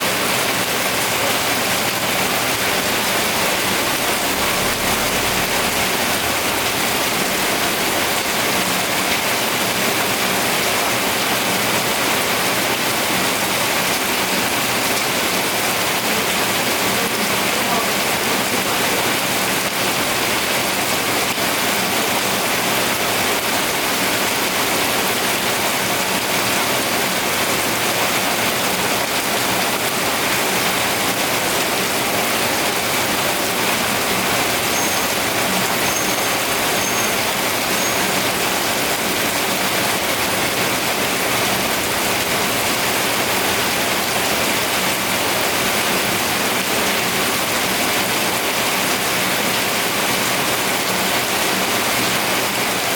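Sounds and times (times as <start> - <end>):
steady rainfall: 0.0 - 52.9.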